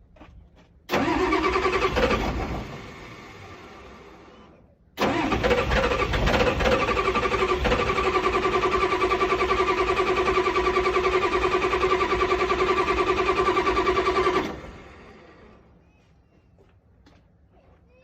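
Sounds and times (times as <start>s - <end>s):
engine starter cranking: 0.9s - 15.4s.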